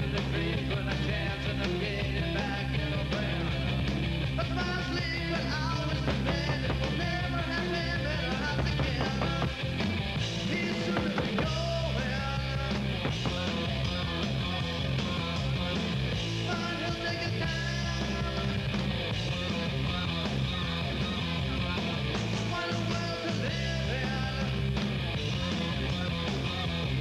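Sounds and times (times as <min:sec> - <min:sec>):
rock music with singer: 0:00.0 - 0:27.0
steady bass line: 0:00.0 - 0:27.0.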